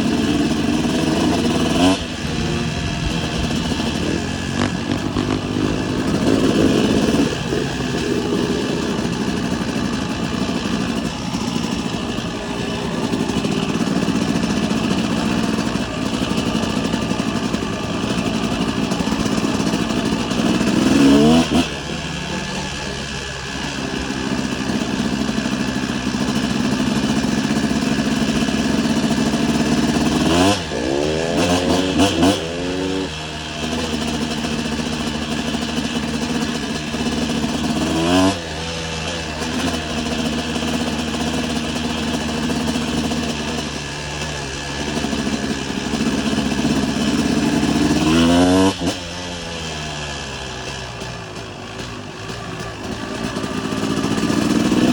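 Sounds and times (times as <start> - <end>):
motocross bike engine revving: 0.0 - 54.9.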